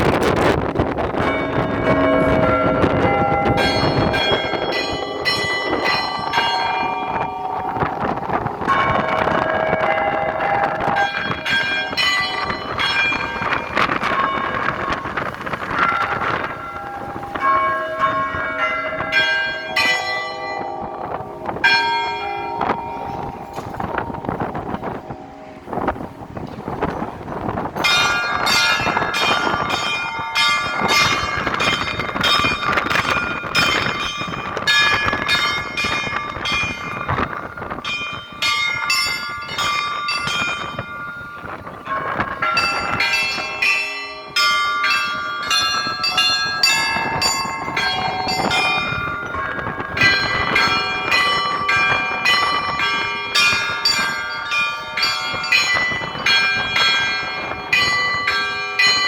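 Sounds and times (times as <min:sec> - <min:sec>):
large low church bells: 0:00.0 - 0:59.0
small high church bells: 0:00.0 - 0:59.0.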